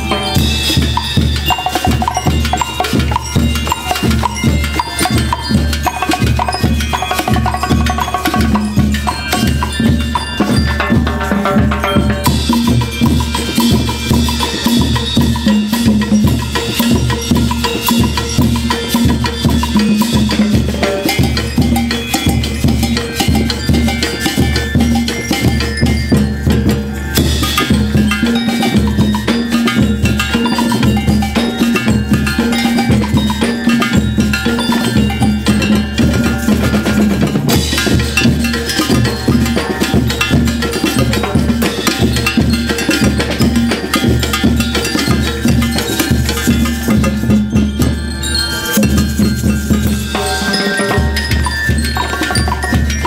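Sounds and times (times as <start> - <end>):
bright pitched melody: 0.0 - 53.0
drums and percussion beat: 0.0 - 53.0.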